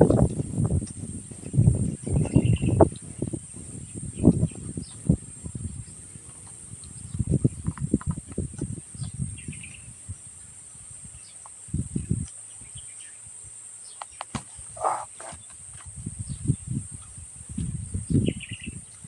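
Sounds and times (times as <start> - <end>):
crunchy chewing of food: 0.0 - 13.0, 13.9 - 19.0.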